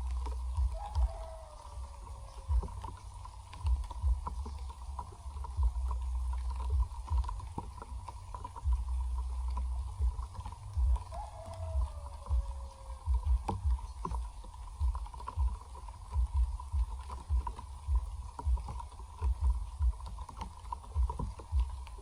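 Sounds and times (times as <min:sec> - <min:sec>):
deep rumble: 0:00.0 - 0:22.0
light ticks: 0:00.0 - 0:22.0
wind buffeting microphone: 0:00.0 - 0:22.0.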